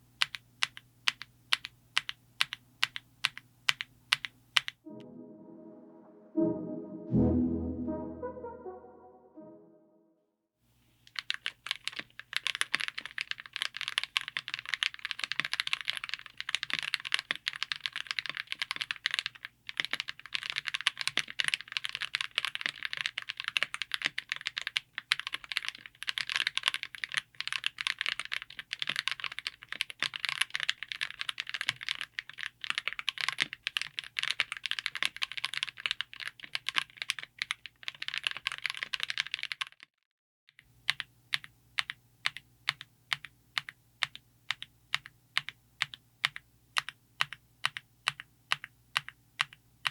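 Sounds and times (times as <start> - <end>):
mechanical keyboard typing: 0.2 - 4.8, 11.1 - 39.8, 40.8 - 49.9.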